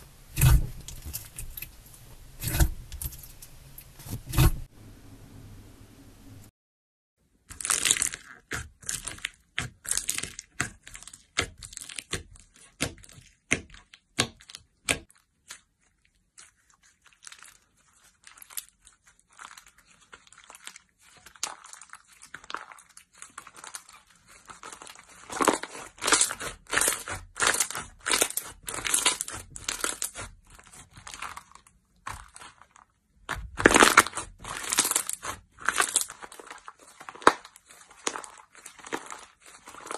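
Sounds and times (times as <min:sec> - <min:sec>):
slime crackling and popping: 0:00.2 - 0:03.3, 0:07.5 - 0:39.9.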